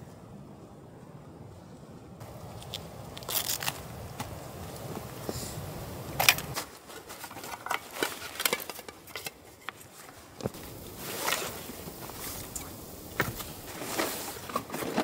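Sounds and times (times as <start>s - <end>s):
camping gear rustling and clinking: 2.2s - 15.0s.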